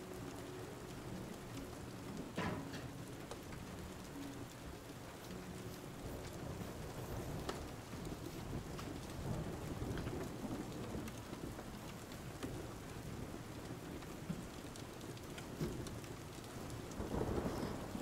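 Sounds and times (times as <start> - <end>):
low rumble of thunder: 0.0 - 18.0
steady rain: 0.0 - 18.0.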